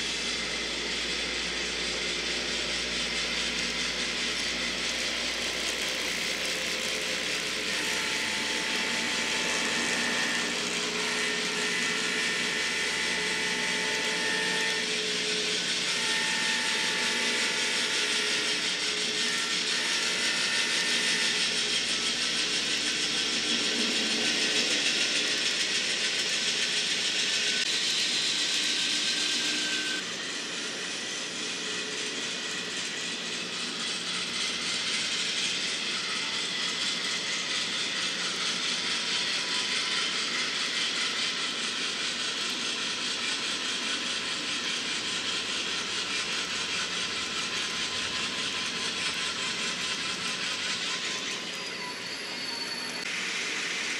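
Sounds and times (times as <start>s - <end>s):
model locomotive drone with hiss: 0.0s - 53.9s.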